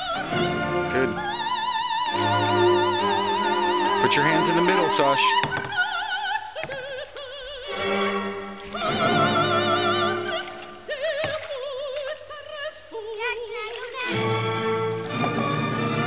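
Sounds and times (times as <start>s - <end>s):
opera singer with vibrato: 0.0s - 16.0s.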